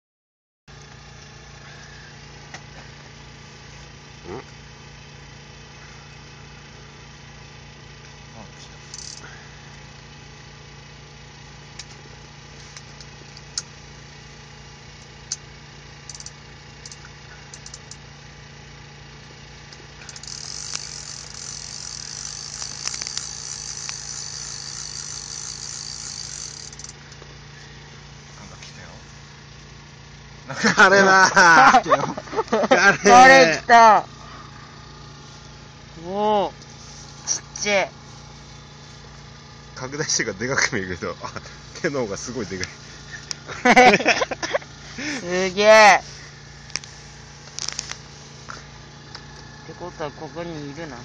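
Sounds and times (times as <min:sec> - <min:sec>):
small motor humming: 0:00.7 - 0:51.0.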